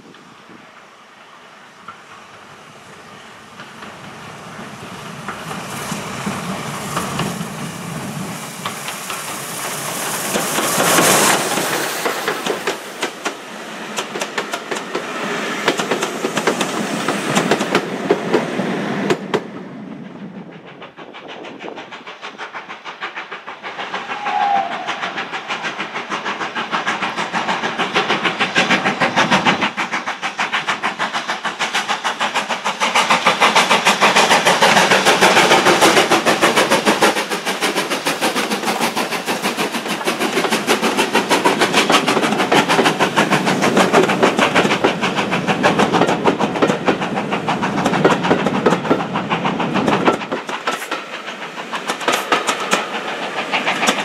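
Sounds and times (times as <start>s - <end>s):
steam locomotive exhaust beat: 0.0s - 54.0s
steam locomotive passing: 0.0s - 54.0s
train wheels clicking over rail joints: 1.8s - 4.2s, 5.0s - 54.0s.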